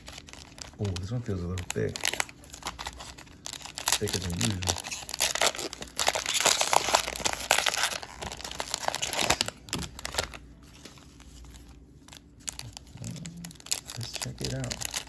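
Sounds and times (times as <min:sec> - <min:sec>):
plastic wrapper tearing and crinkling: 0:00.0 - 0:15.0.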